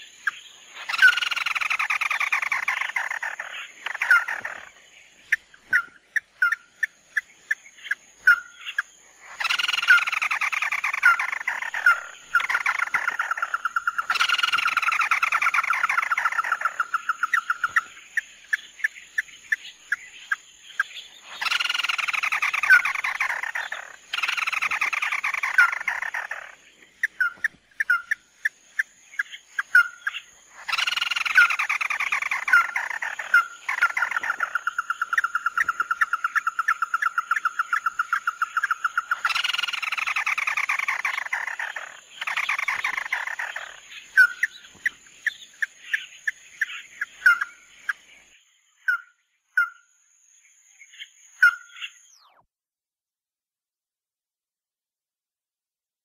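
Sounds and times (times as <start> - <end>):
bird sharp calls: 0.0 - 49.8, 50.8 - 52.4.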